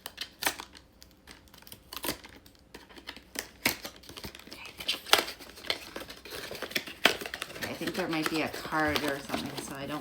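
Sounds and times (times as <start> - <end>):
packaging clicks and taps: 0.0 - 10.0.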